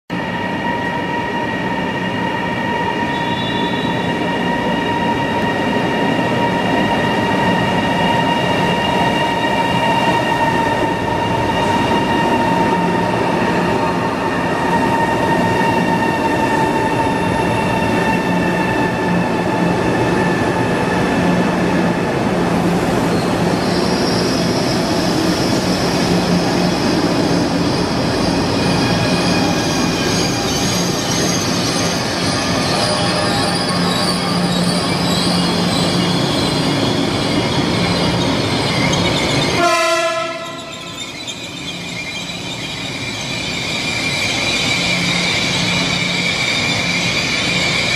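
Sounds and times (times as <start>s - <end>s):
high squeal: 0.2s - 21.2s, 22.8s - 47.9s
wheels rushing on rail: 0.2s - 47.9s.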